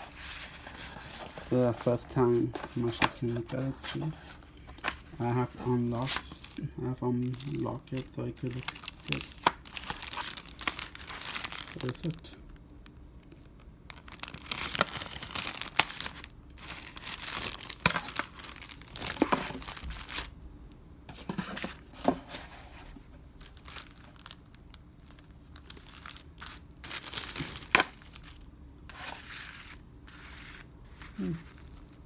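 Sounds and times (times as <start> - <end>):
packaging crinkling and rustling: 0.0 - 20.3, 21.1 - 32.0.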